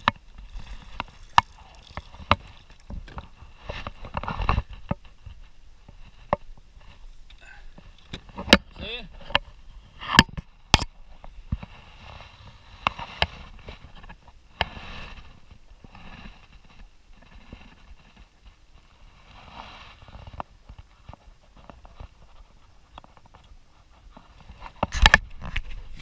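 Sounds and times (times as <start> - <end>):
soft rubbing and rustling: 0.0 - 8.4, 11.2 - 26.0.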